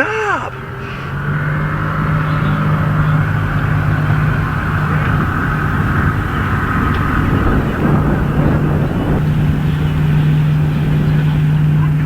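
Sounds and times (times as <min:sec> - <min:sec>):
motor engine humming: 0:00.0 - 0:12.0.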